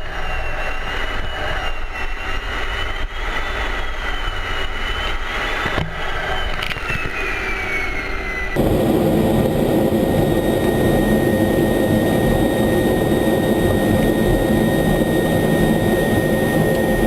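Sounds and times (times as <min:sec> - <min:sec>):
jet engine rushing with high whine: 0:00.0 - 0:17.0.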